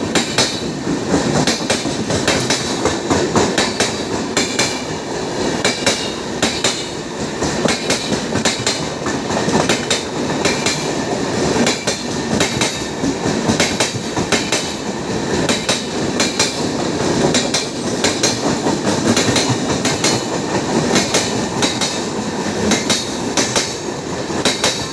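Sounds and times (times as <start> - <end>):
train wheels clicking over rail joints: 0.0 - 24.9.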